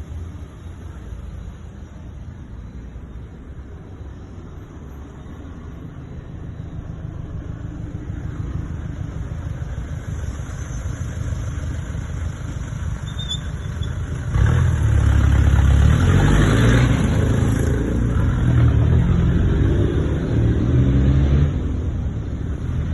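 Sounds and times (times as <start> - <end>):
car engine: 0.0 - 22.9
road noise: 0.0 - 22.9.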